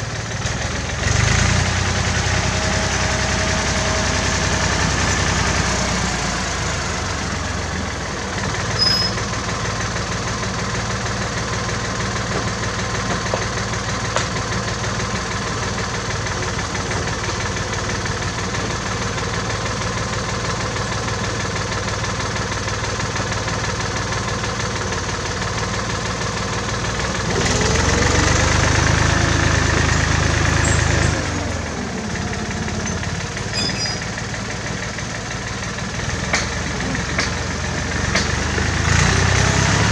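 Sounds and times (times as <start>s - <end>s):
tractor engine idling: 0.0s - 39.9s
tractor engine revving: 0.0s - 39.9s.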